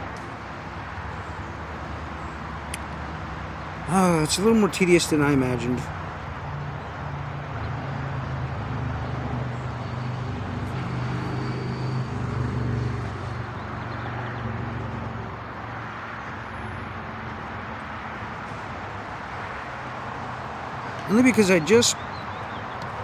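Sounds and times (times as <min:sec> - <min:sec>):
rushing background noise: 0:00.0 - 0:23.0
vehicle engine hum: 0:00.0 - 0:23.0.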